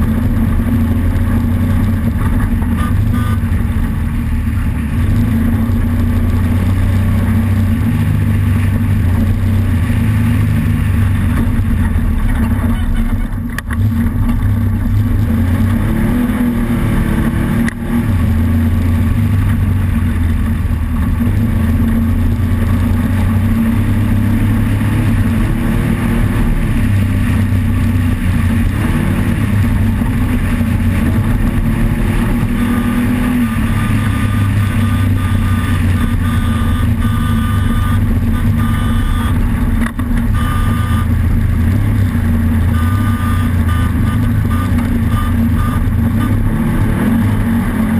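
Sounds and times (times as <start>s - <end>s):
race car engine running hard: 0.0s - 47.9s.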